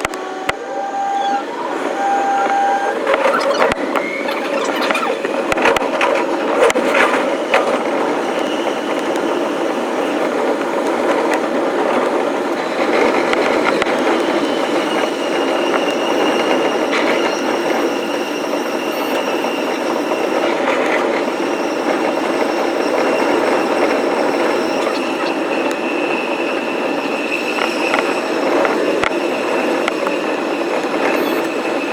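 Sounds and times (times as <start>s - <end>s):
train wheels rumbling on rail: 0.0s - 31.9s
train wheel clacks: 1.4s - 31.9s.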